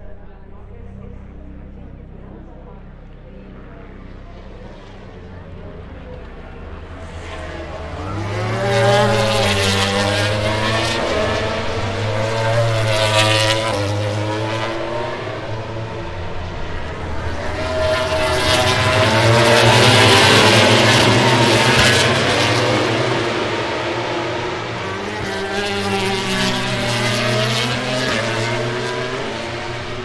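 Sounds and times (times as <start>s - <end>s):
racing motorcycle engines revving: 0.0s - 30.0s.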